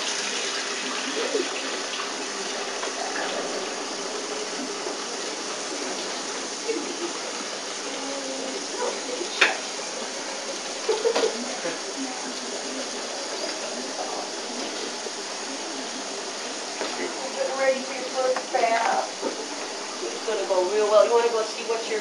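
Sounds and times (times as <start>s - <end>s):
water running into a bath: 0.0s - 22.0s.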